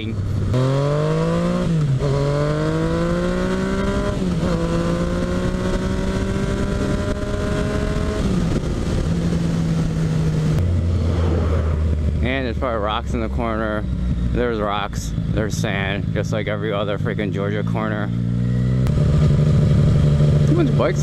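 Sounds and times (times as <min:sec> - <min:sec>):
wind and road noise: 0:00.0 - 0:21.0
motorcycle engine shifting up: 0:00.1 - 0:21.0.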